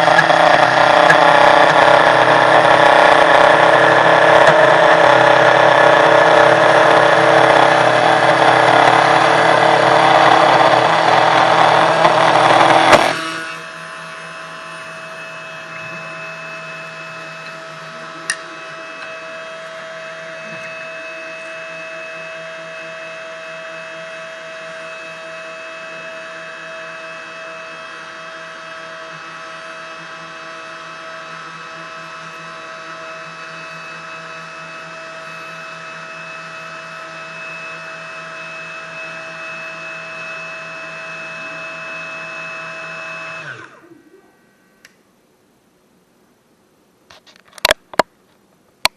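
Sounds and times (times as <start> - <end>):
cnc router milling: 0.0 - 45.0.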